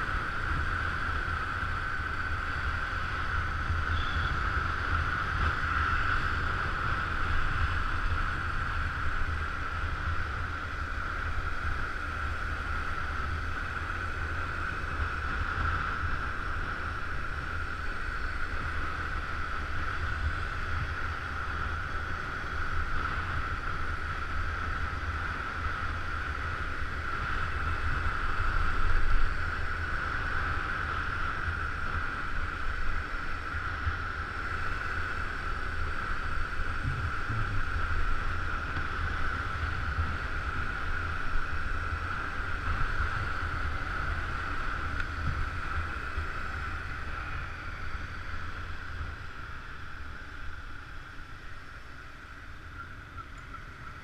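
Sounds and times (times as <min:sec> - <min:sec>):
scooter engine and road hum: 0:00.0 - 0:54.0
wind rushing over microphone: 0:00.0 - 0:54.0.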